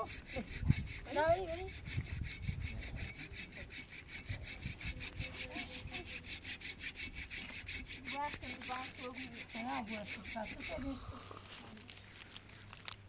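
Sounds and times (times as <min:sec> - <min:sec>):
rapid rasping strokes: 0:00.0 - 0:13.0.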